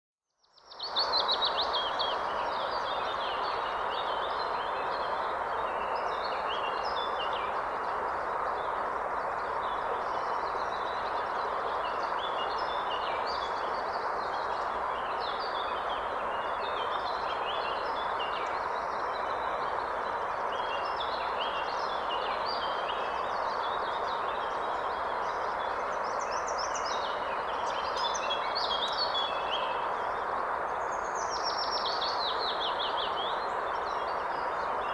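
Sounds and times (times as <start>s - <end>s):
river water flowing: 0.9s - 34.9s.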